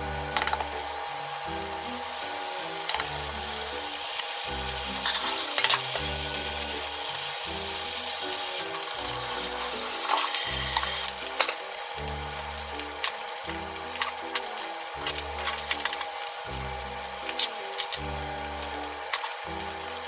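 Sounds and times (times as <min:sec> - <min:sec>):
background music with bass line: 0:00.0 - 0:20.0
eggs sizzling in a pan: 0:00.0 - 0:20.0.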